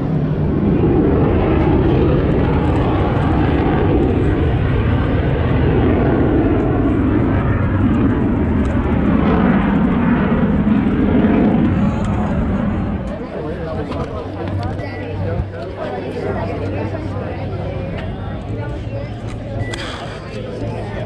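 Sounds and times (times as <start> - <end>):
airplane engine rushing: 0.0 - 21.0.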